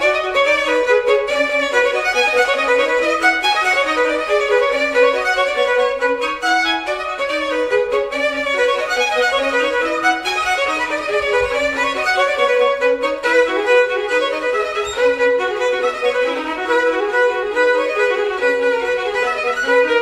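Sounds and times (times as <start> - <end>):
fast busy melody: 0.0 - 20.0.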